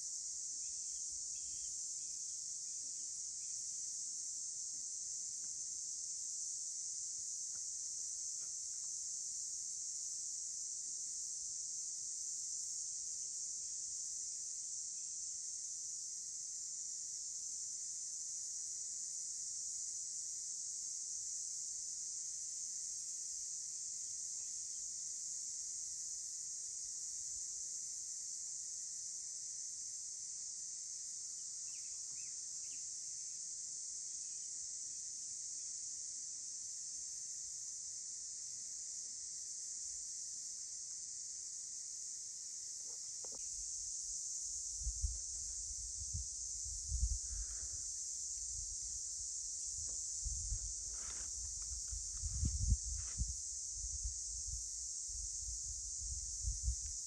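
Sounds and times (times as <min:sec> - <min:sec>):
high insect chorus: 0:00.0 - 0:57.0.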